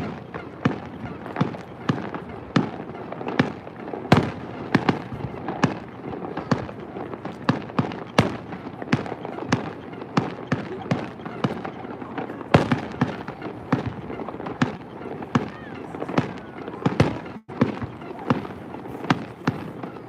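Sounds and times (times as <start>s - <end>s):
fainter fireworks background: 0.0s - 20.0s
fireworks bangs: 0.0s - 20.0s.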